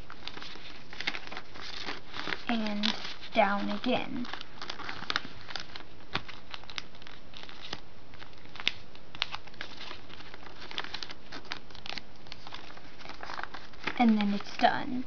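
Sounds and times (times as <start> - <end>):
paper crinkling and crackling: 0.0 - 15.0.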